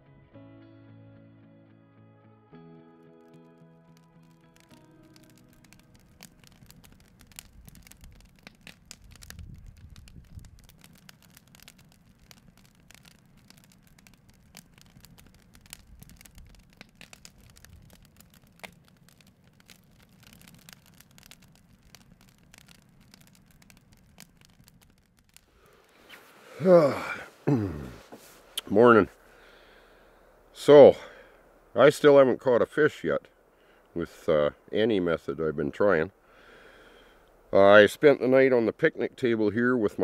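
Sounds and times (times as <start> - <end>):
campfire crackling: 2.7 - 40.0.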